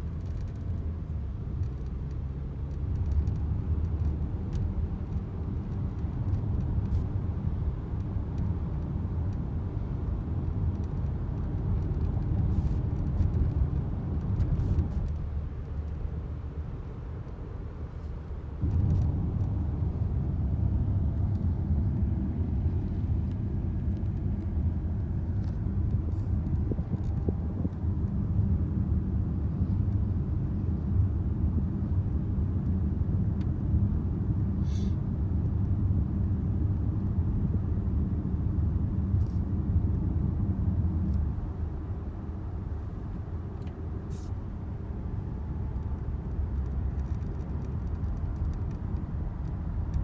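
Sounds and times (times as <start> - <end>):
low mechanical rumble: 0.0 - 50.0.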